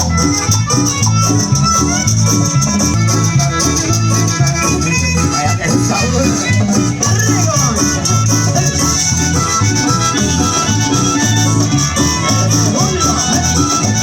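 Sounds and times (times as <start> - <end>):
latin dance music: 0.0 - 14.0.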